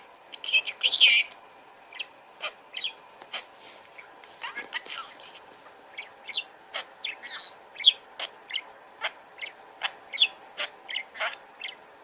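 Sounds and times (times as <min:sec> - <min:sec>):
parrot chirping and squawking: 0:00.3 - 0:11.8.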